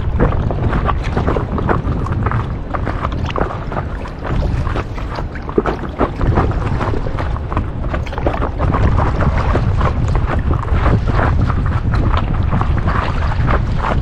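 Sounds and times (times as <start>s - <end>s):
paddle splashing water: 0.0s - 14.0s
wind buffeting the microphone: 0.0s - 14.0s.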